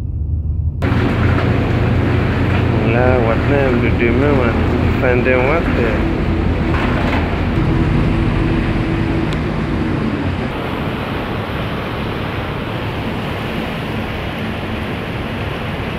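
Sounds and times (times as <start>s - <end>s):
wind rushing: 0.0s - 14.1s
churning water: 0.8s - 15.9s
ship engines droning: 0.8s - 15.9s.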